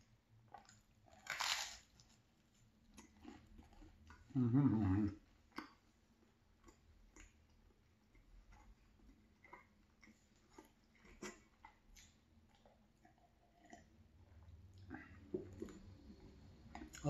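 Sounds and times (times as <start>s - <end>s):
chewing toast with wet mouth clicks: 0.4s - 4.3s, 5.3s - 17.0s.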